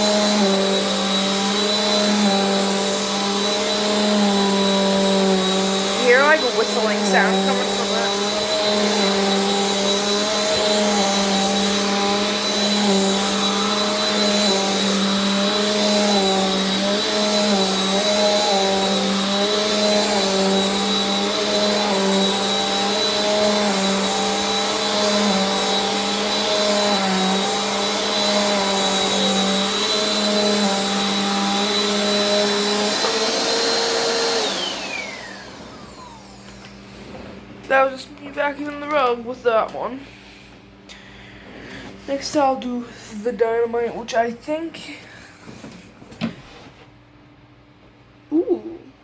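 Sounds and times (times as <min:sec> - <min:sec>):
vacuum cleaner running over rug: 0:00.0 - 0:40.2, 0:41.5 - 0:43.9.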